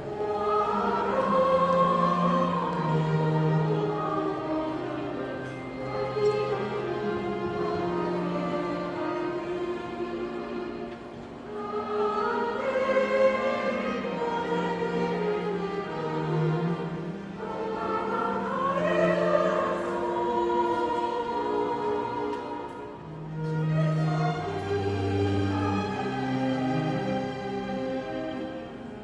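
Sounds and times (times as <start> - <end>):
classical ensemble with singing: 0.0 - 29.0.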